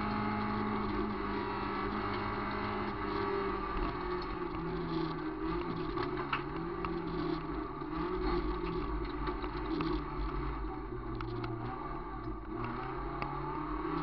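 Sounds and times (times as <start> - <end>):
car engine running hard: 0.0 - 14.0
gravel clicks and rattles: 0.0 - 14.0.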